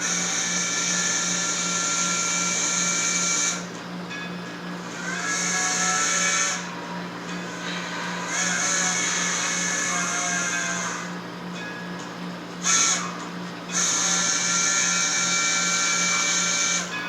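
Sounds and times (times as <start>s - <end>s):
model train steam whistle: 0.0s - 3.7s, 4.8s - 11.2s, 12.6s - 17.0s
low electrical hum: 0.0s - 17.0s.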